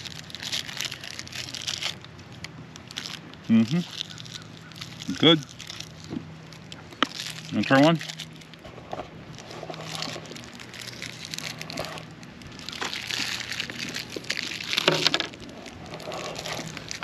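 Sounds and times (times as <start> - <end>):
plastic candy wrapper crinkling: 0.0 - 17.0.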